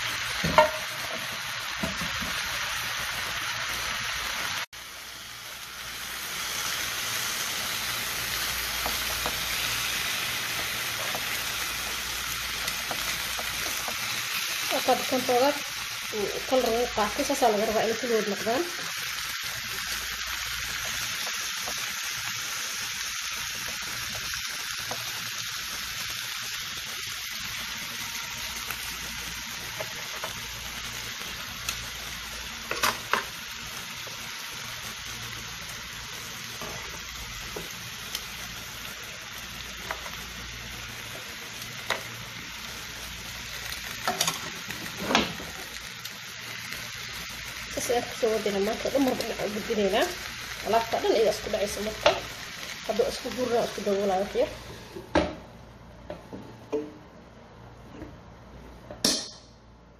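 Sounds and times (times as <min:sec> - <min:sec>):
food sizzling in oil: 0:00.0 - 0:55.2.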